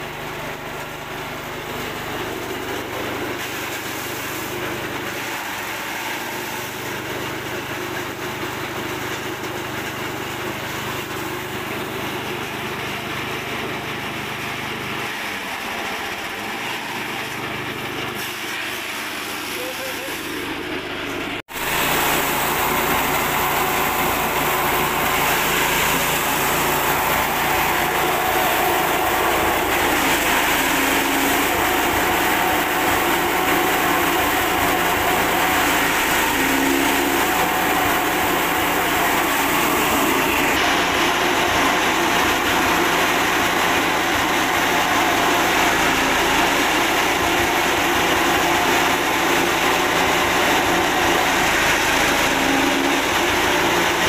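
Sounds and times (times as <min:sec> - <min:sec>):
petrol engine running: 0:00.0 - 0:54.0
chaff cutter chopping stalks: 0:00.1 - 0:54.0.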